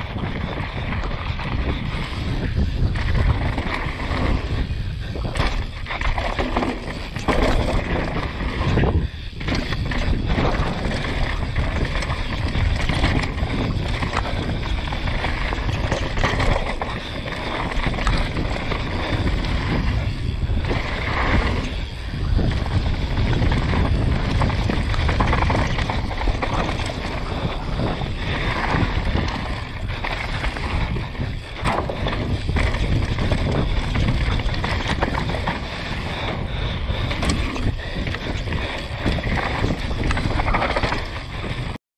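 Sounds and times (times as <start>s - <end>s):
bike rattling over bumps: 0.0s - 41.8s
tyres rumbling on gravel: 0.0s - 41.8s
wind buffeting microphone: 0.0s - 41.8s.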